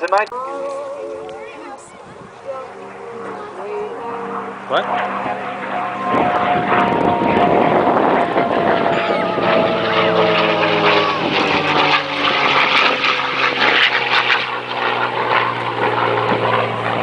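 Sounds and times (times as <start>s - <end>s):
aircraft engine flying past: 0.0s - 17.0s.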